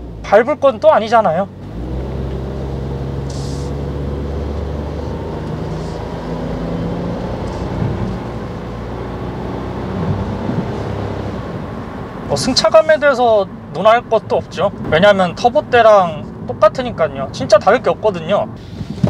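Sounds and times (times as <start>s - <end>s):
low car engine hum: 0.0s - 19.0s
tyre and road noise: 0.0s - 19.0s.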